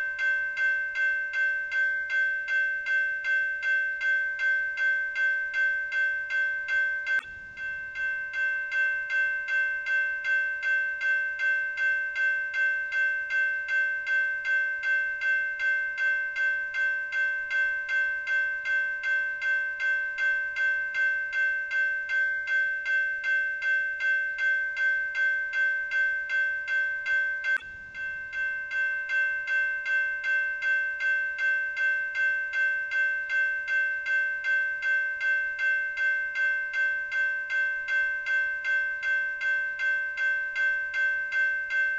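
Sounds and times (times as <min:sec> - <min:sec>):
railroad crossing bell ringing: 0:00.0 - 0:41.9.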